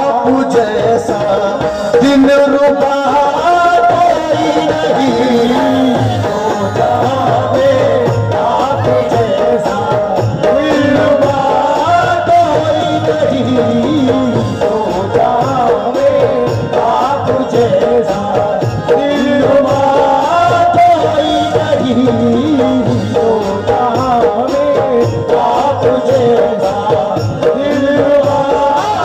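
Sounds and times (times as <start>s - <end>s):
harmonium: 0.0s - 29.0s
man singing: 0.0s - 29.0s
tabla: 0.0s - 29.0s.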